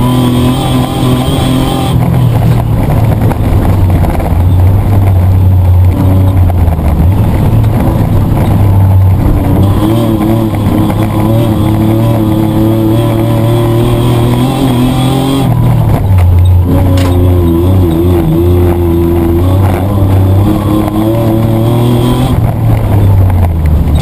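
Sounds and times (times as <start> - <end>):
race truck engine accelerating: 0.0 - 24.0.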